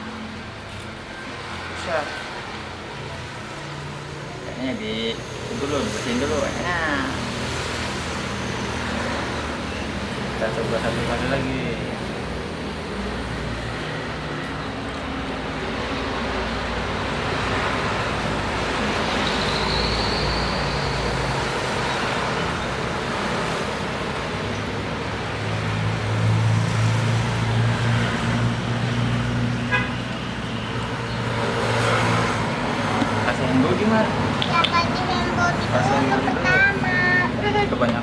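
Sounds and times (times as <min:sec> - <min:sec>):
road traffic rushing: 0:00.0 - 0:38.0.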